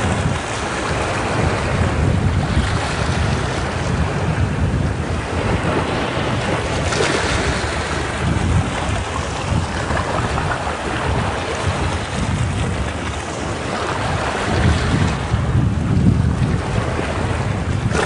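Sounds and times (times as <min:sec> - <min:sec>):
waves breaking against rocks: 0:00.0 - 0:18.0.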